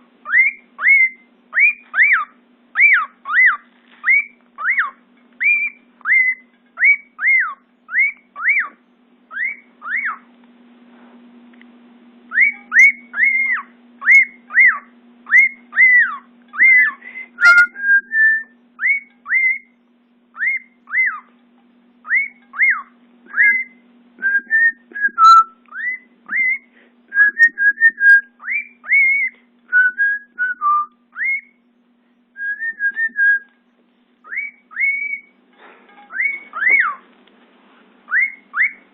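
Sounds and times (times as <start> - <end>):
cockatiel whistling: 0.2 - 10.2, 12.3 - 19.7, 20.4 - 21.3, 22.0 - 31.6, 32.4 - 33.5, 34.2 - 35.4, 36.1 - 37.0, 38.1 - 38.9.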